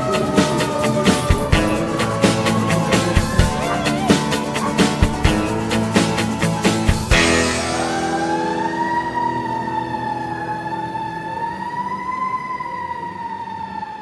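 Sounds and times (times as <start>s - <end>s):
siren wailing: 0.0s - 5.9s, 7.6s - 14.0s.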